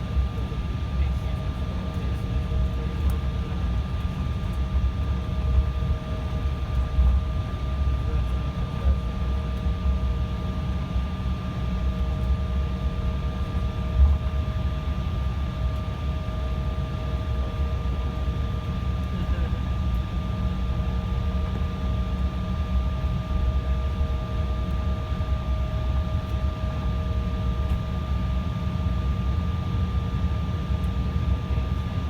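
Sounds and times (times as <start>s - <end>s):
jet engine rumble: 0.0s - 32.0s.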